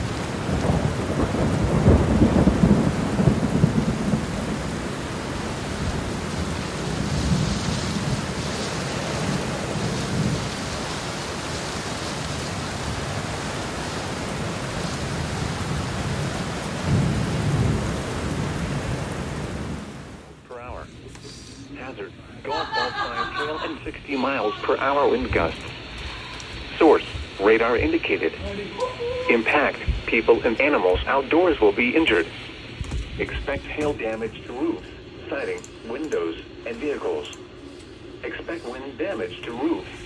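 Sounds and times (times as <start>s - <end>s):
thunder rumbling: 0.0s - 21.1s, 21.8s - 40.0s
steady rain falling: 0.0s - 40.0s.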